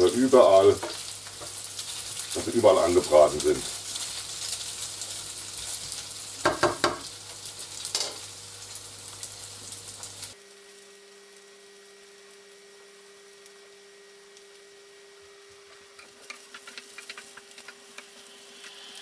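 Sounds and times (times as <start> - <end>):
dumplings sizzling in oil: 0.0 - 19.0.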